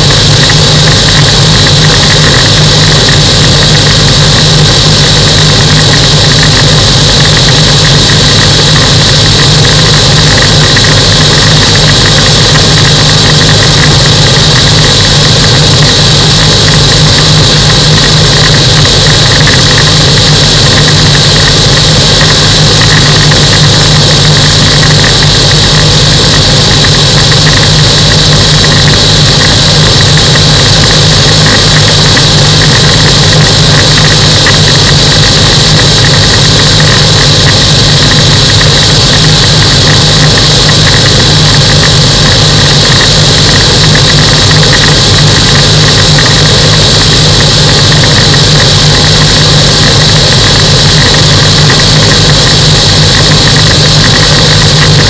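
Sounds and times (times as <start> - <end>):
aircraft engine and propeller: 0.0 - 55.0
steady high hiss: 0.0 - 55.0.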